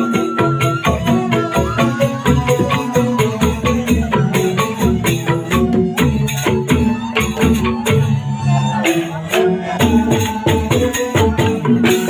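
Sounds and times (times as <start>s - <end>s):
quick percussion strikes: 0.0s - 12.0s.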